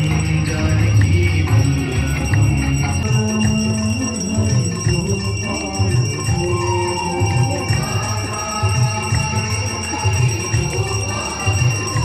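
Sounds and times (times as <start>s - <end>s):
bell ringing: 0.0s - 12.0s
devotional singing: 0.0s - 12.0s.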